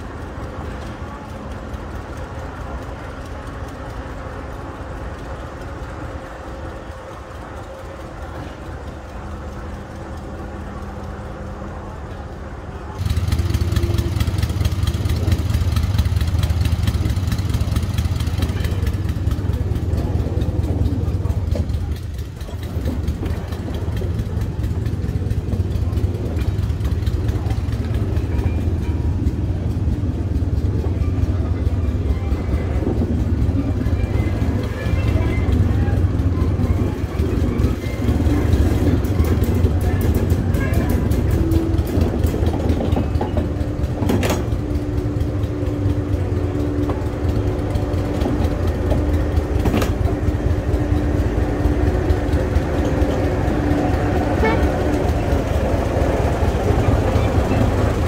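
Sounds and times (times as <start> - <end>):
locomotive engine rumble: 0.0 - 58.0
rail noise: 0.0 - 58.0.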